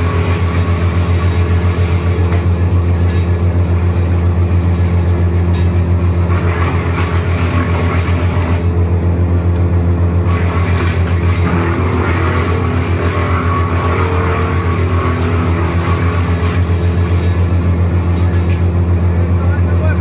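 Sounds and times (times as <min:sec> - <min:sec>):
wood chipper engine drone: 0:00.0 - 0:20.0.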